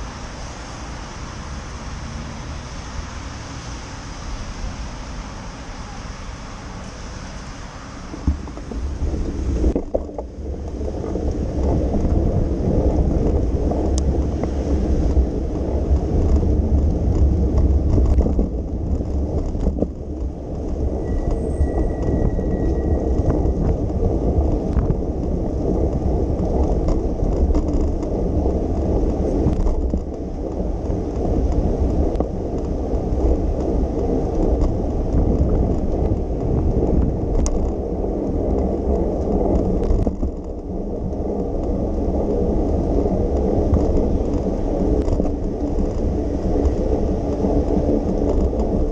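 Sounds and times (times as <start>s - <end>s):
bicycle tyres rumbling on road: 0.0s - 48.9s
wind on microphone: 0.0s - 48.9s.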